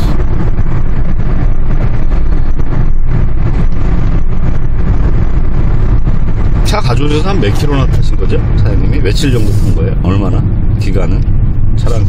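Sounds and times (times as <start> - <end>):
car engine and road noise rumble: 0.0 - 12.0.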